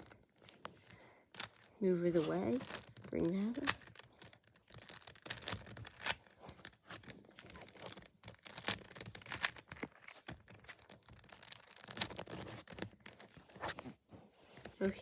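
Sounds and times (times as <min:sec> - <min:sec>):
puzzle cube clicking and scraping: 0:00.0 - 0:13.8.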